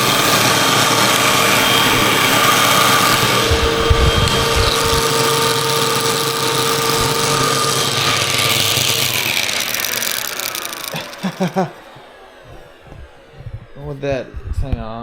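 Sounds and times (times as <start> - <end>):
vacuum cleaner running: 0.0 - 13.6.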